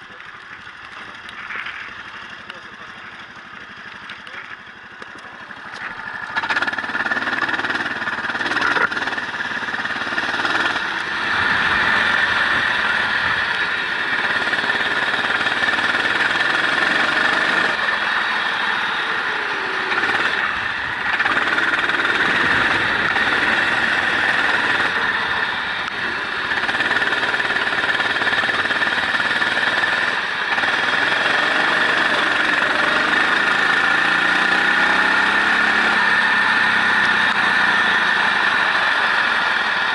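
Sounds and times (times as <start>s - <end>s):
wind and road noise: 0.0s - 39.9s
race car engine revving: 5.2s - 39.9s.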